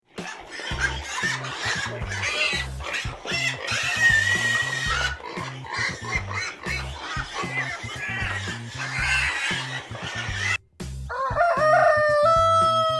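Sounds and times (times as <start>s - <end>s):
farm animal calls: 0.2s - 12.9s
music with repeating bass line: 0.7s - 12.9s.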